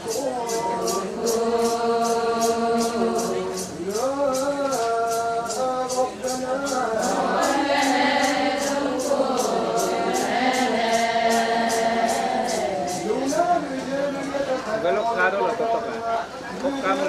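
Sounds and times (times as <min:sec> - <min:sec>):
sharp high rattle beat: 0:00.0 - 0:13.7
women singing in chorus: 0:00.0 - 0:14.0.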